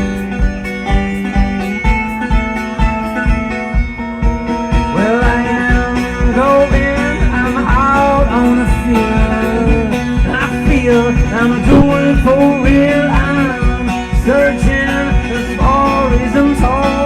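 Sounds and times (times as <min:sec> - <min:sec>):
guitar: 0:00.0 - 0:17.0
steady drum beat: 0:00.0 - 0:17.0.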